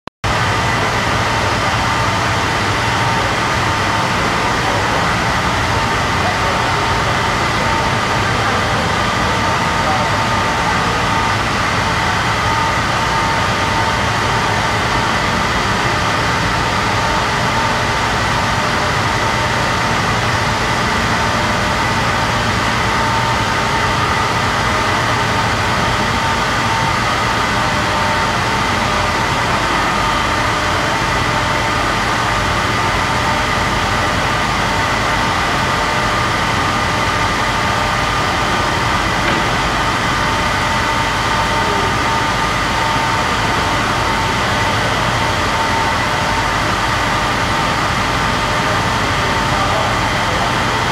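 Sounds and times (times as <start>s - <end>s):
mill machinery drone: 0.2s - 50.9s.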